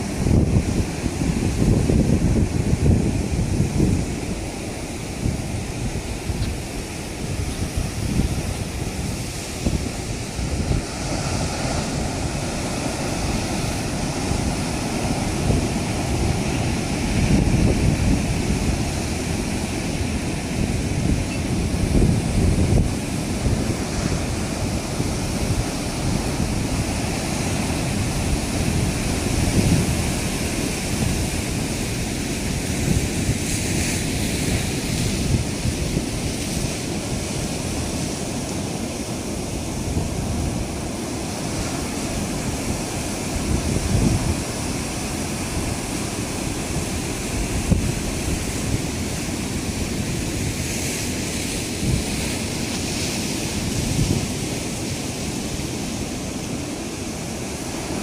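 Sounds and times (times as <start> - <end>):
surf breaking and washing: 0.0 - 58.0
wind buffeting microphone: 0.0 - 58.0.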